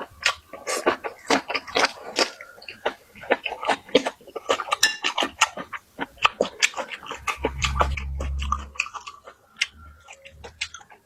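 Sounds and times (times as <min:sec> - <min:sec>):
person chewing wetly: 0:00.0 - 0:11.0.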